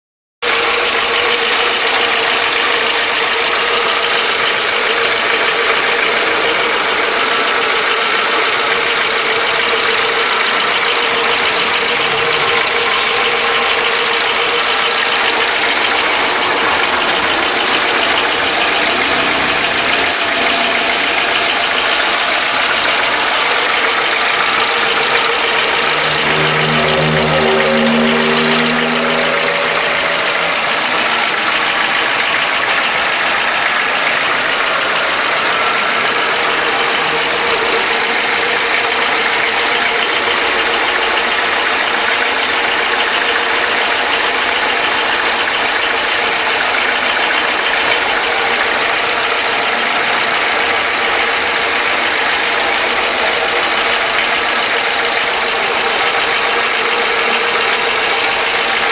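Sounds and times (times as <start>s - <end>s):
car engine idling with knocking: 0.4s - 58.9s.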